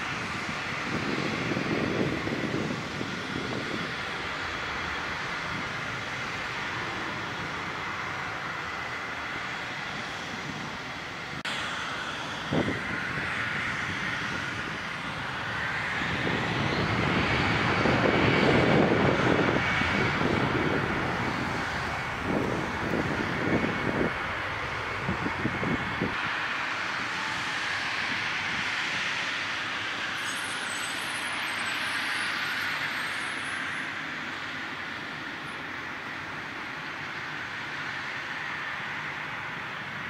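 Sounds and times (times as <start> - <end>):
jet engines rushing with whine: 0.0 - 40.0.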